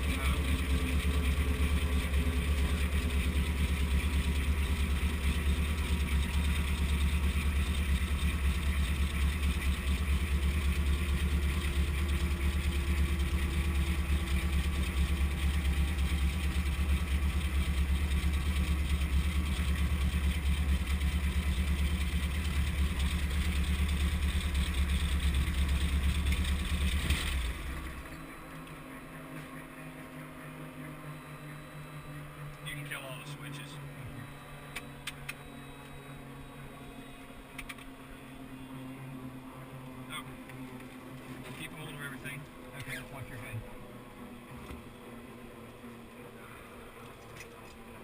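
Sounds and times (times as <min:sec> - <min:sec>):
helicopter piston engine running: 0:00.0 - 0:48.0
rotor spinning down hum: 0:00.0 - 0:48.0.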